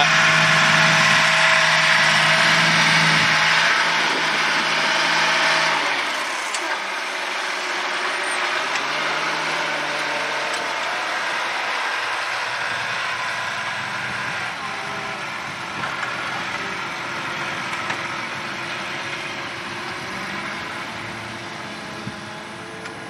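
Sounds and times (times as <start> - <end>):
quieter engine drone: 0.0 - 23.0
tractor diesel engine under load: 0.0 - 23.0.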